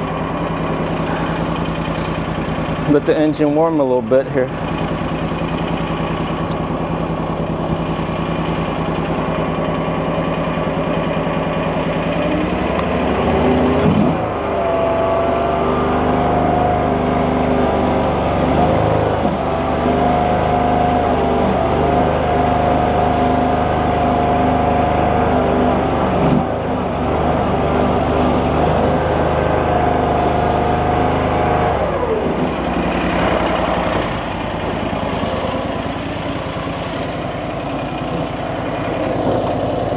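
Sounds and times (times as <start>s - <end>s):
small gasoline engine idling and revving: 0.0s - 39.9s.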